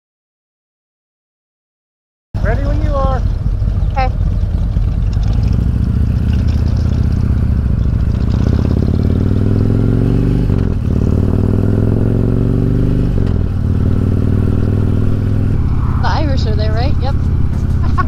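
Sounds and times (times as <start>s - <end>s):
motorcycle engine accelerating: 2.4s - 18.0s.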